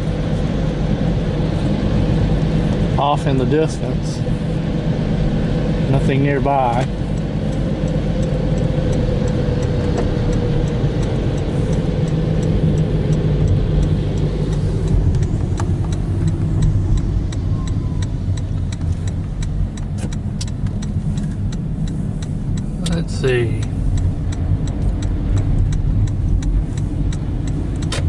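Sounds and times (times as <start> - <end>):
car road and engine rumble: 0.0 - 28.0
turn signal clicking: 0.0 - 28.0.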